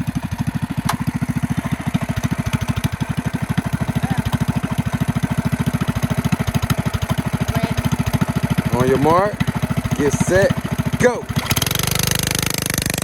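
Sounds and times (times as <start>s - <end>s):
engine idling with rapid chug: 0.0s - 13.0s.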